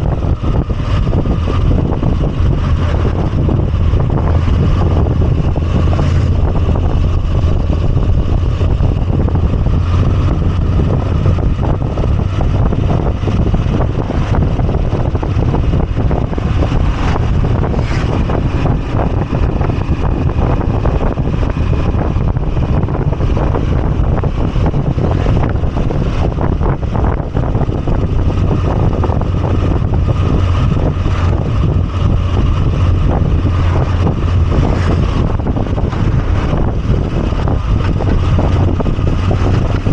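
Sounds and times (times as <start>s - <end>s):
motorcycle engine droning: 0.0s - 39.9s
road and wind rush: 0.0s - 39.9s.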